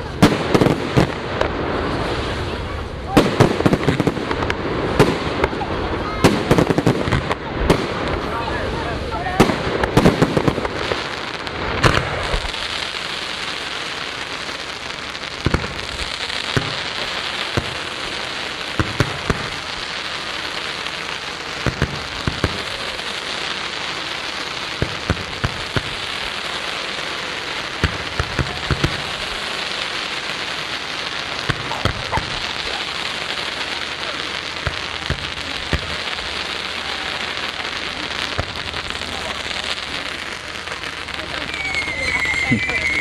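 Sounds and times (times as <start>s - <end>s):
fireworks bangs: 0.0s - 43.0s
fireworks crackling hiss: 0.0s - 43.0s.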